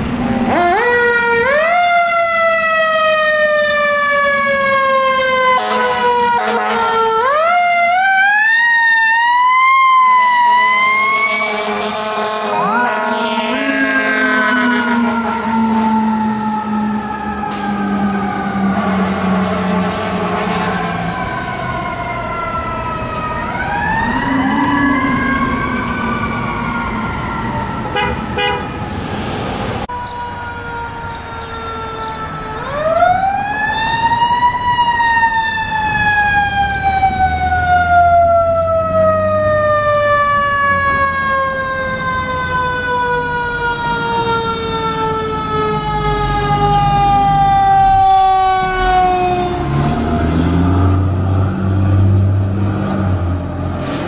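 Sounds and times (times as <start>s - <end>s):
fire truck siren wailing: 0.0s - 54.0s.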